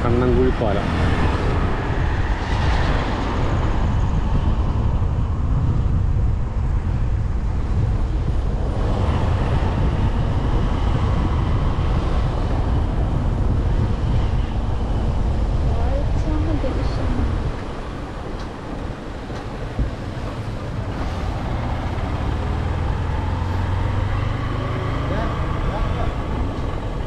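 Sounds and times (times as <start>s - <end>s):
vehicle rumbling on road: 0.0s - 27.0s
wind buffeting microphone: 0.0s - 27.0s.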